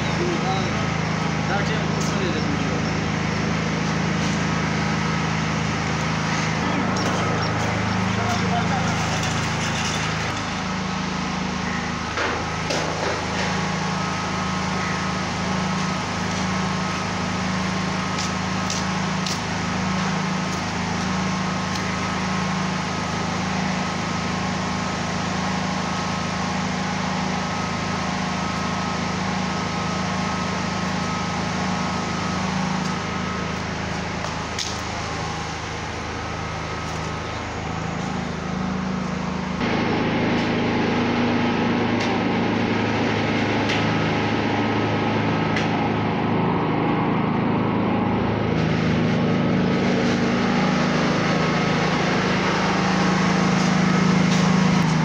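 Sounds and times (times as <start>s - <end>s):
small engine humming: 0.0s - 55.0s.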